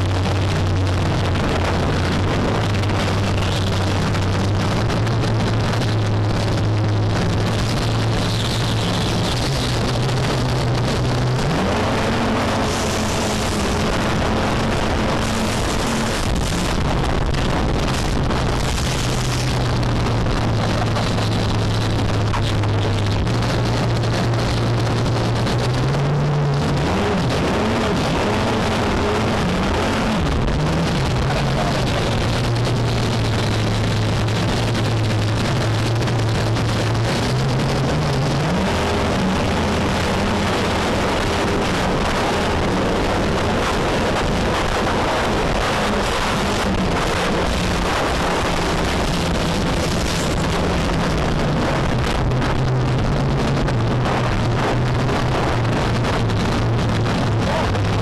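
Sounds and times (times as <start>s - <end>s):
speedboat engine running hard: 0.0s - 58.0s
wind and water spray on microphone: 0.0s - 58.0s.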